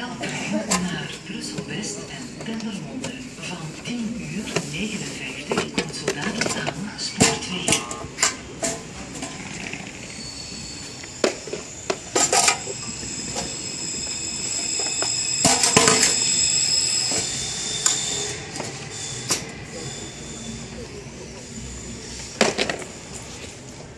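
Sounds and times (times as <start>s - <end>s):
train squealing: 0.0s - 23.9s.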